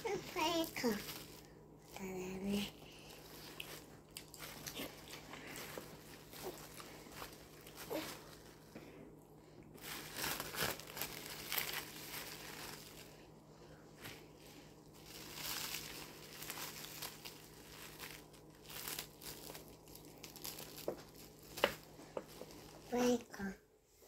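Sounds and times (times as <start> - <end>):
cling film crinkling: 0.0 - 8.7, 9.8 - 13.3, 14.8 - 23.3.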